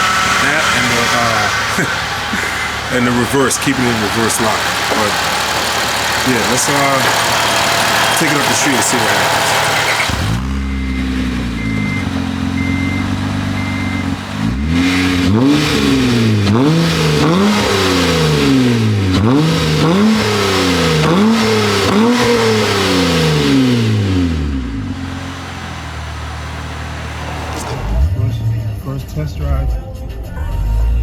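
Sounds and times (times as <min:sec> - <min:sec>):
car engine idling and revving: 0:00.0 - 0:28.4.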